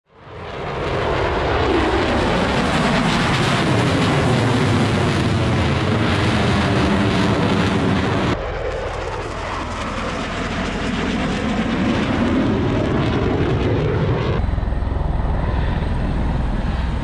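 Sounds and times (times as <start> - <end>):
jet engine roaring overhead: 0.1 - 17.0.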